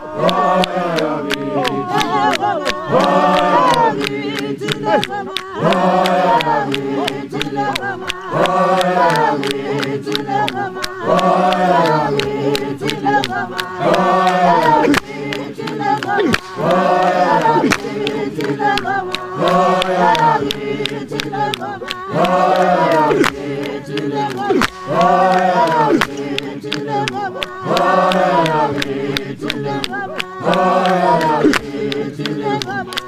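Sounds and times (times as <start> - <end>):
group singing a cappella: 0.0 - 33.0
handclaps: 0.0 - 33.0.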